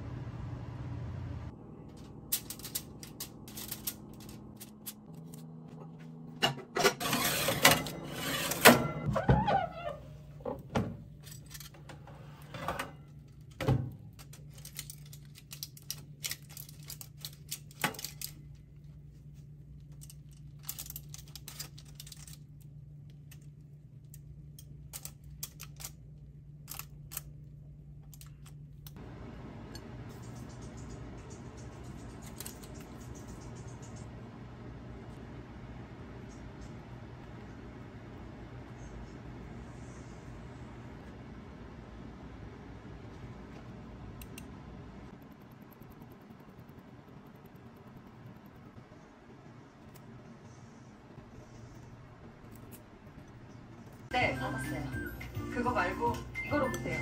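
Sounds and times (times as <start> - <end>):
steady low hum: 0.0 - 56.6.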